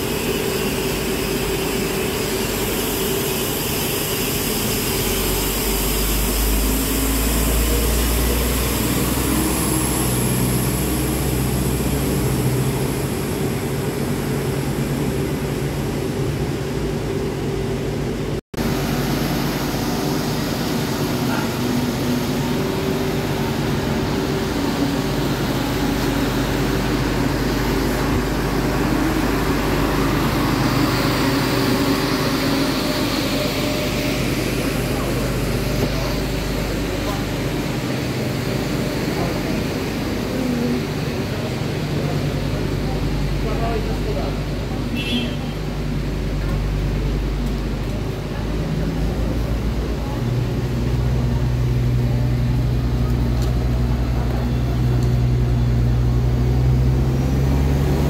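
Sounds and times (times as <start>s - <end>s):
diesel engine drone: 0.0s - 58.0s
train rolling slowly: 0.0s - 58.0s.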